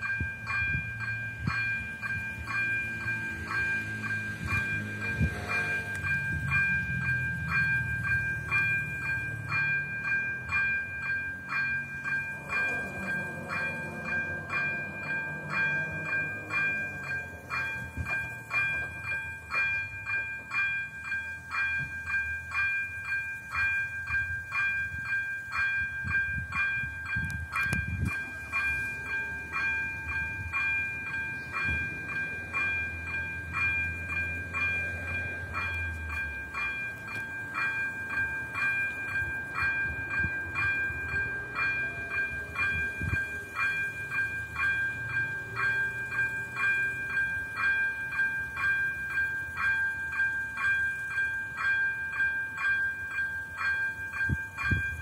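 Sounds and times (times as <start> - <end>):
level crossing warning bell: 0.0 - 55.0.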